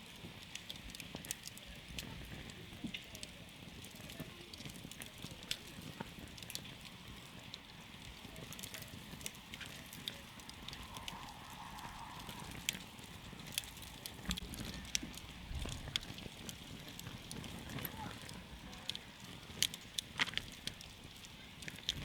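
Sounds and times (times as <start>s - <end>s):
campfire crackling and popping: 0.0s - 22.0s
low rumble of flames: 0.0s - 22.0s.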